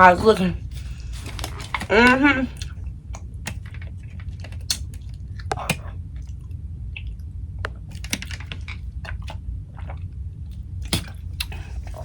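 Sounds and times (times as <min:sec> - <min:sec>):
steady low hum: 0:00.0 - 0:12.0
person chewing food: 0:00.6 - 0:12.0.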